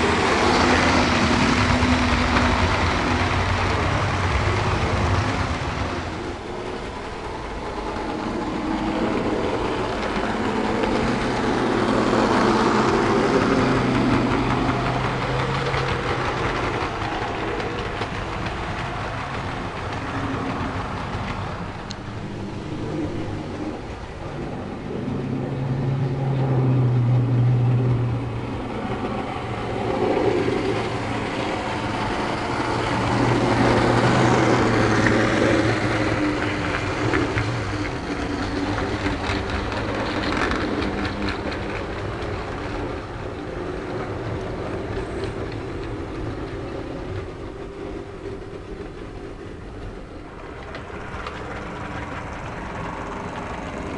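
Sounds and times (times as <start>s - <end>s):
wheels on rails: 0.0s - 53.9s.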